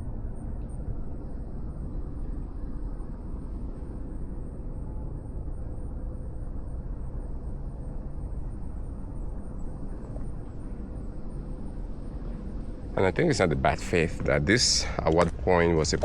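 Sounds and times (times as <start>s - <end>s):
faint steady hum: 0.0s - 16.0s
low background rumble: 0.0s - 16.0s.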